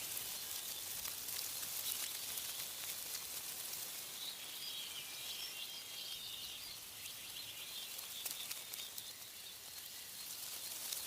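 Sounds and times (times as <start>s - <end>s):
small crackling ticks: 0.0s - 11.0s
wind rustling tree leaves: 0.0s - 11.0s.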